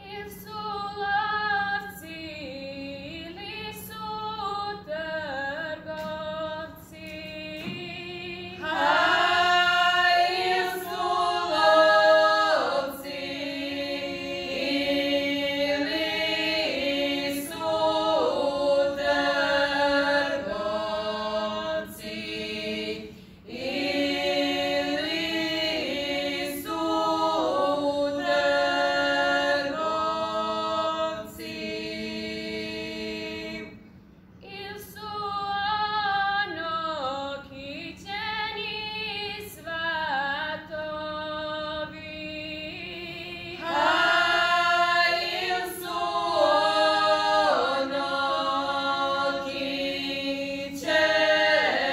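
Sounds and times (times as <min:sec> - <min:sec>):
women singing unaccompanied: 0:00.0 - 0:33.8, 0:34.4 - 0:51.9.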